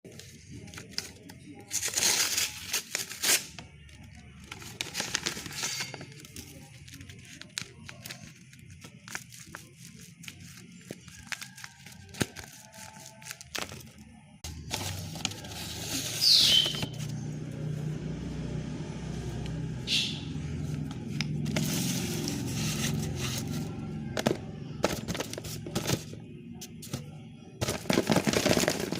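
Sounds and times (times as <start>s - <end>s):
paper and tape crinkling: 0.1s - 17.2s, 21.4s - 28.9s.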